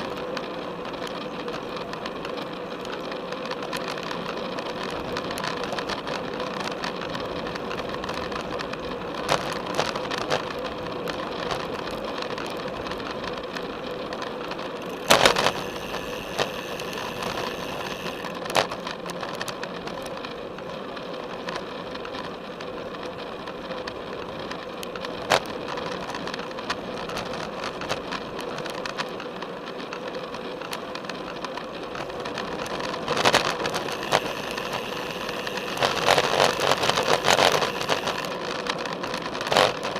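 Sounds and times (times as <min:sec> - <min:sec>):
bike knocks and rattles over bumps: 0:00.0 - 0:20.8, 0:21.4 - 0:39.9
bicycle tyre and drivetrain noise: 0:00.0 - 0:39.9.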